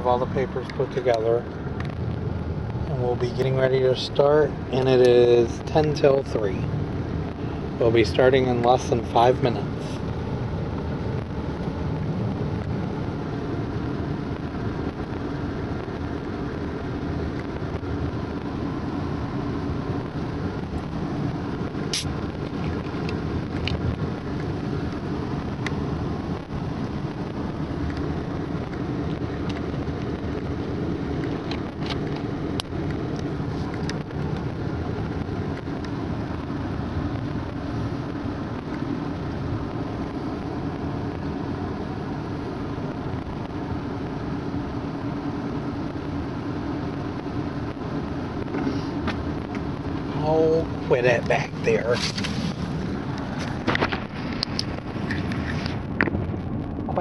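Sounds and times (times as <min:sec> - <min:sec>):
car cabin hum and rumble: 0:00.0 - 0:57.0.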